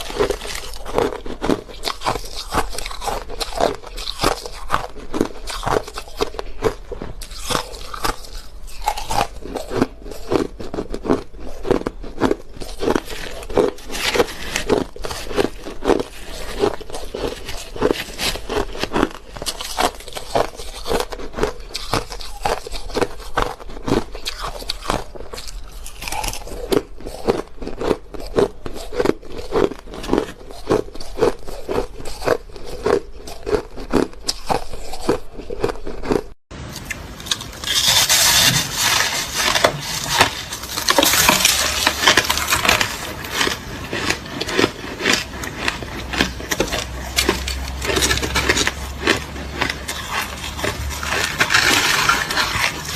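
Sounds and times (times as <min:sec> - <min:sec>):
crushed ice being chewed: 0:00.0 - 0:52.9.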